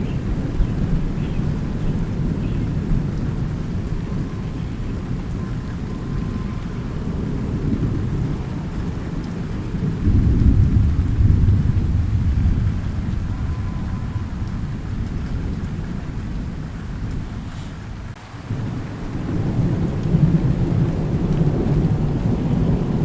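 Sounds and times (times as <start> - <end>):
rolling thunder: 0.0 - 23.0
steady rain: 0.0 - 23.0.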